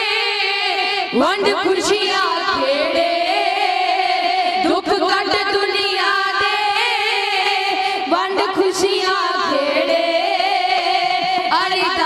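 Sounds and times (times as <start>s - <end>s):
sarangi held line: 0.0s - 12.0s
woman singing a ballad: 0.0s - 12.0s.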